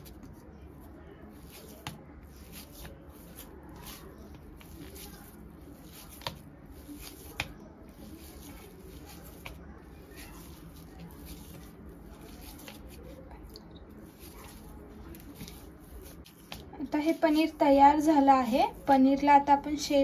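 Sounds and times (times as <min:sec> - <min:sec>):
hands kneading cheese: 0:00.0 - 0:20.0.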